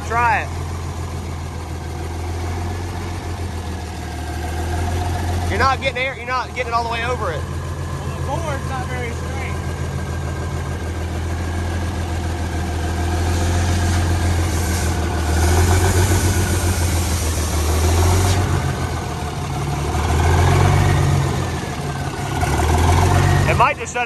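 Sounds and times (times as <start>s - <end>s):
diesel locomotive engine running: 0.0s - 24.0s.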